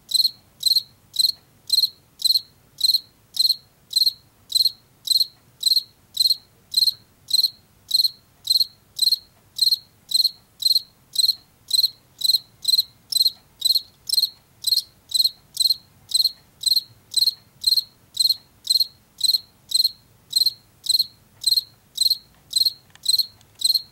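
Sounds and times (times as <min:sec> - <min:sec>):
cricket chirping: 0:00.1 - 0:23.9.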